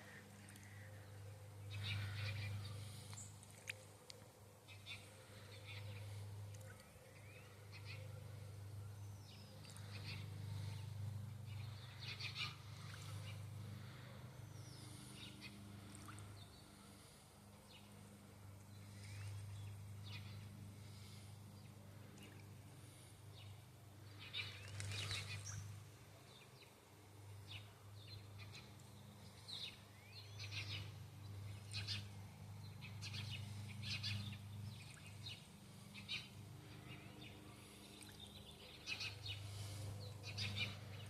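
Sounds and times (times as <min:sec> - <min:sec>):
small birds chirping: 0:00.0 - 0:41.0
steady low hum: 0:00.0 - 0:41.0.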